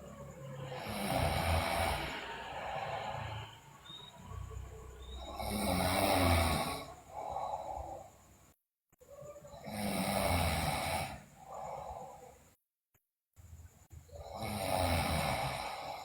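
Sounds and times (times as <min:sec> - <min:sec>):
girl snoring: 0:00.0 - 0:08.3, 0:09.2 - 0:12.4, 0:14.1 - 0:16.0.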